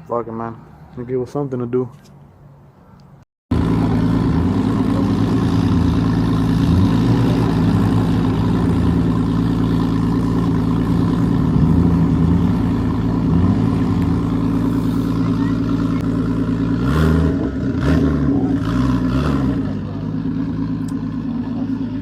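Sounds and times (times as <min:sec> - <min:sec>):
loud car exhaust note: 0:03.5 - 0:22.0.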